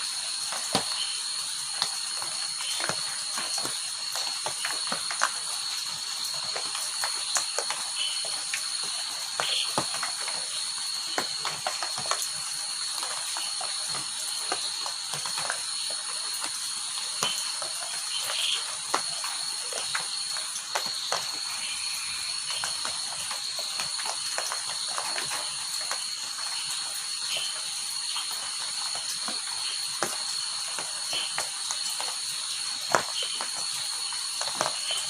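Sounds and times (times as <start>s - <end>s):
high-pitched insect trill: 0.0s - 35.0s
raindrops pattering: 0.0s - 35.0s.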